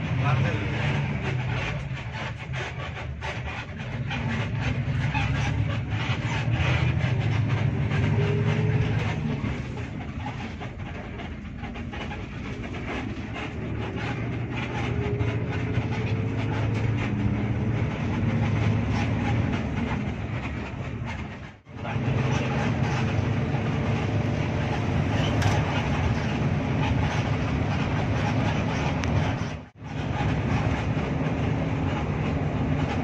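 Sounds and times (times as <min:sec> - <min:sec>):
bus diesel engine droning: 0:00.0 - 0:33.0
light interior rattles: 0:00.0 - 0:33.0
road noise: 0:00.0 - 0:33.0.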